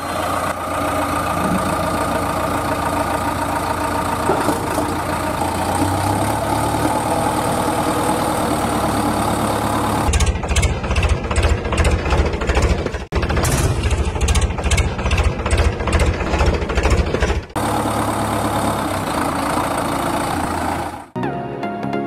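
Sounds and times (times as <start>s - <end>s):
engine idling and chugging: 0.0s - 21.2s.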